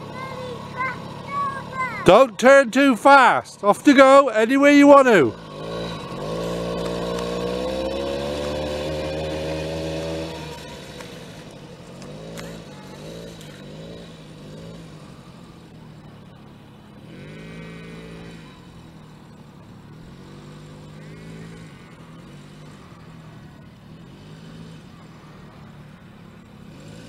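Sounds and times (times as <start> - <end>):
quad bike engine revving: 0.0 - 27.0.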